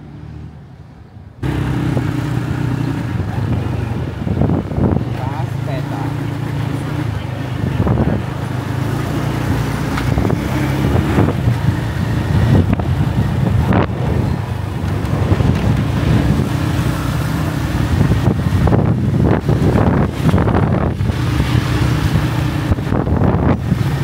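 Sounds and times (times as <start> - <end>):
road traffic engines humming: 0.0 - 24.0.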